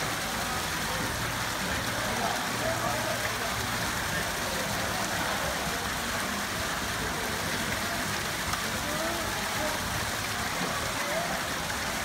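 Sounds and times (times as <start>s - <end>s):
waterfall pouring into pond: 0.0s - 12.0s.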